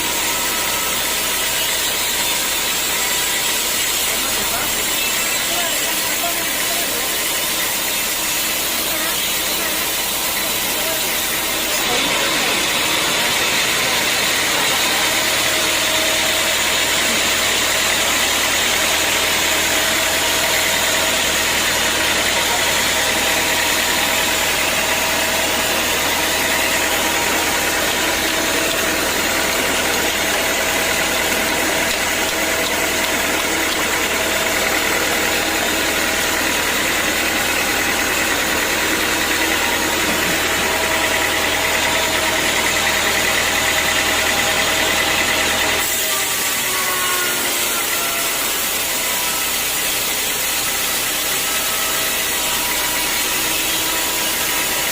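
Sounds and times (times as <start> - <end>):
sawmill saw cutting log: 0.0 - 54.9.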